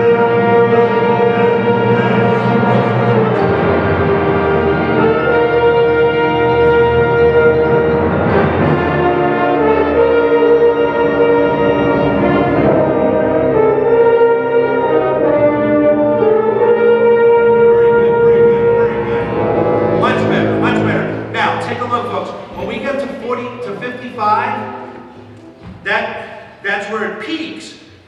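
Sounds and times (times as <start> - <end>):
wind band playing chords: 0.0 - 28.0.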